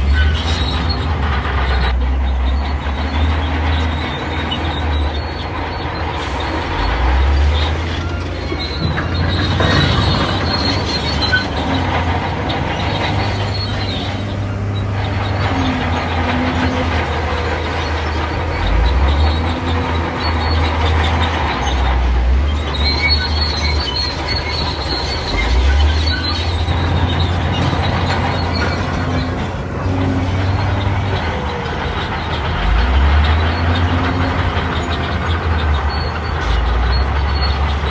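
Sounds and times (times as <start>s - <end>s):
bulldozer diesel engine: 0.0s - 37.9s
steel tracks squealing and clanking: 0.0s - 37.9s.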